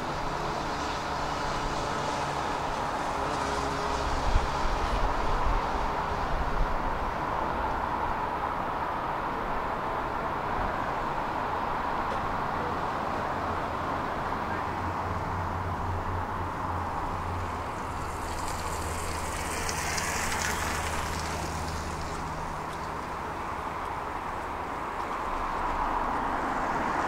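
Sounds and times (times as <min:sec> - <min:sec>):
distant city traffic hum: 0:00.0 - 0:27.0.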